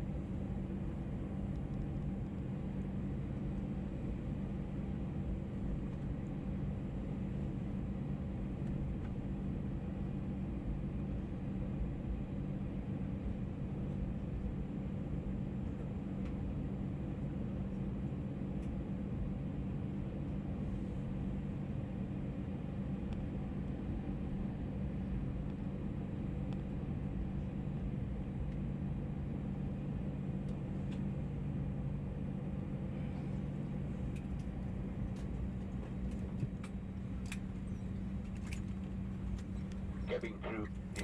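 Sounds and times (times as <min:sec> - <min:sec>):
aircraft cabin engine hum: 0:00.0 - 0:41.0.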